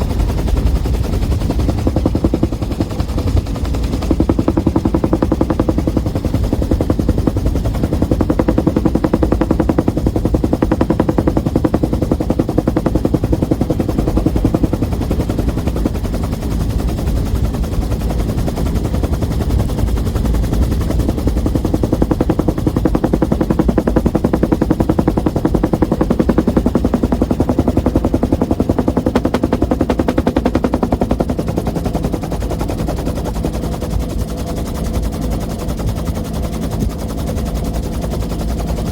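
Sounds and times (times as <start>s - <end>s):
helicopter rotor thudding: 0.0s - 38.8s
helicopter engine drone: 0.0s - 38.9s.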